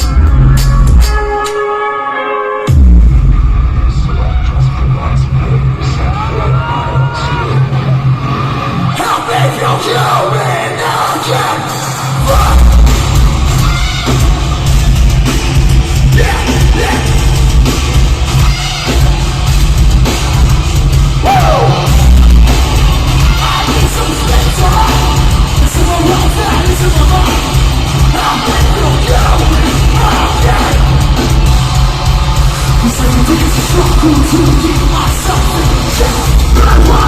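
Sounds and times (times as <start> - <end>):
pounding bass and drums: 0.0 - 1.5, 2.7 - 9.9, 12.0 - 37.0
distorted guitars: 0.0 - 37.0
yelled vocals: 5.3 - 37.0.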